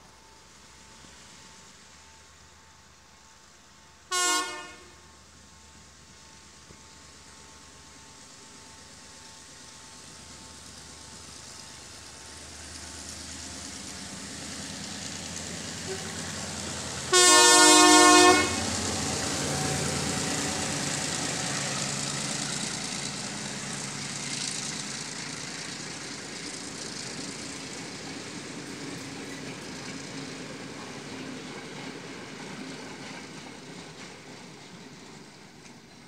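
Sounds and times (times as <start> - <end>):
diesel locomotive engine droning: 0.0 - 36.0
train carriages rolling on track: 0.0 - 36.0.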